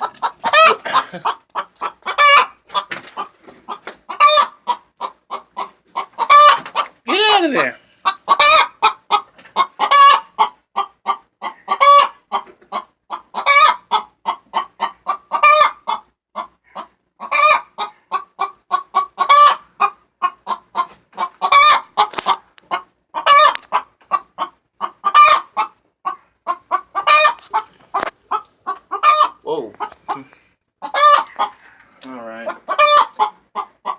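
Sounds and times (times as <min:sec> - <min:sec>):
hen cackling: 0:00.0 - 0:02.9, 0:03.7 - 0:20.6, 0:24.8 - 0:31.8, 0:32.4 - 0:33.9.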